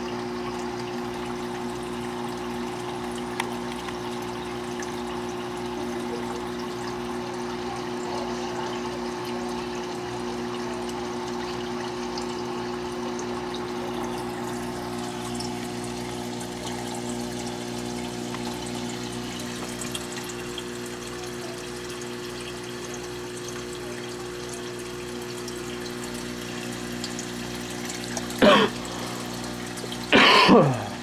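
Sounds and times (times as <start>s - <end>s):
aquarium pumps humming: 0.0s - 31.0s
moving water: 0.0s - 31.0s.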